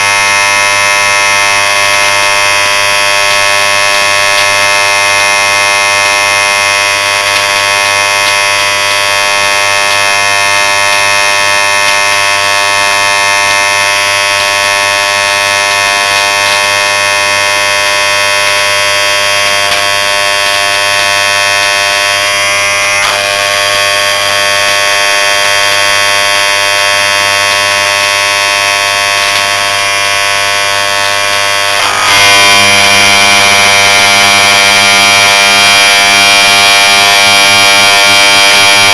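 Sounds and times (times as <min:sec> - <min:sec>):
electric motor buzzing: 0:00.0 - 0:38.9.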